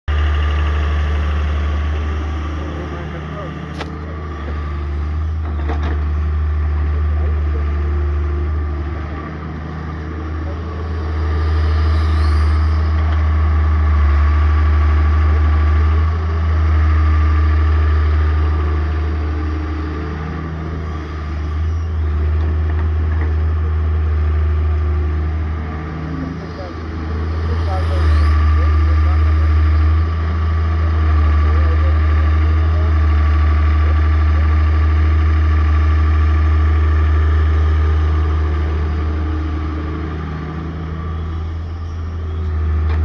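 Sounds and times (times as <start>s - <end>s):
excavator diesel engine rumbling: 0.1s - 43.0s.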